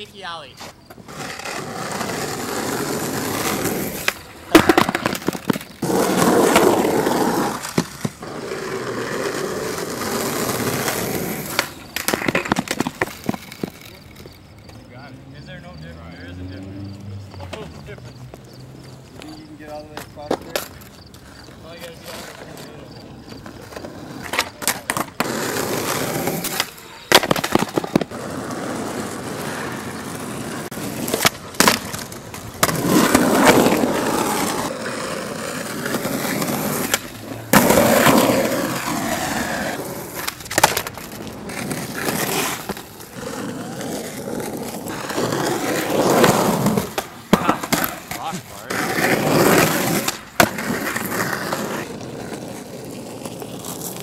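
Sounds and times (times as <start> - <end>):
skateboard wheels rolling on asphalt: 0.0 - 54.0
skateboard cracking on ground: 0.4 - 14.8, 17.4 - 54.0.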